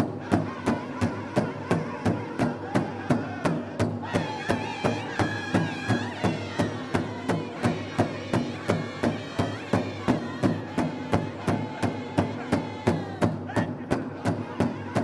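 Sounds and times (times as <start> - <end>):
group singing in chorus: 0.0 - 15.0
large drum beating: 0.0 - 15.0.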